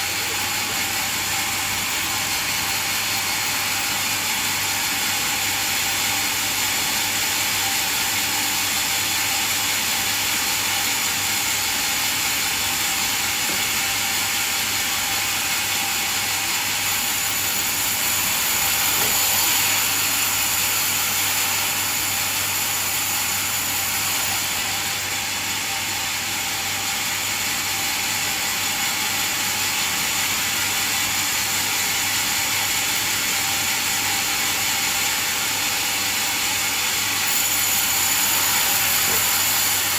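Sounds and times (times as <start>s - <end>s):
bandsaw sawmill running: 0.0s - 39.9s.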